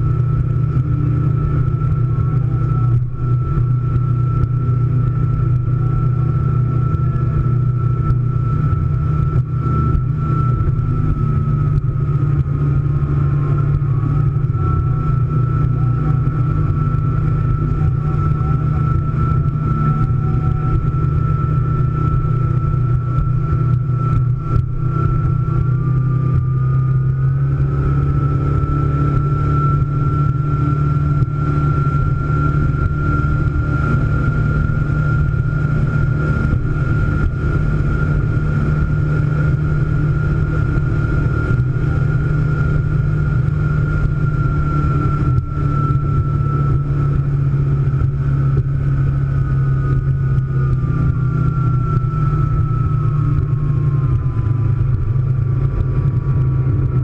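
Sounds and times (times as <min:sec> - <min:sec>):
boat engine droning: 0:00.0 - 0:57.0
water rushing against hull: 0:00.0 - 0:57.0.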